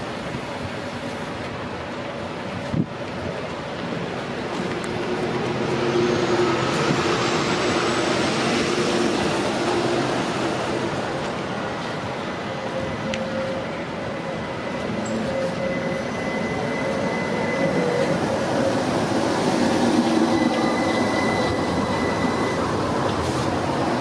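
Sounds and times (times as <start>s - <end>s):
tram running: 0.0s - 24.0s.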